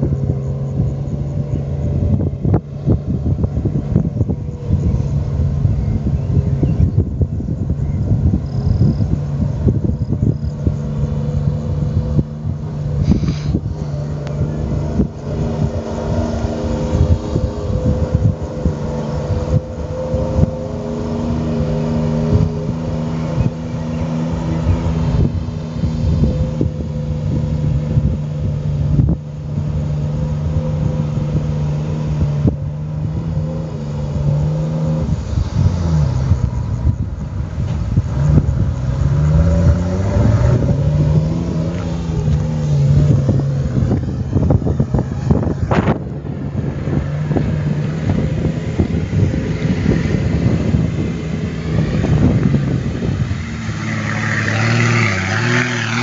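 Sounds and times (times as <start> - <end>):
vehicle engine revving in water: 0.0 - 56.0.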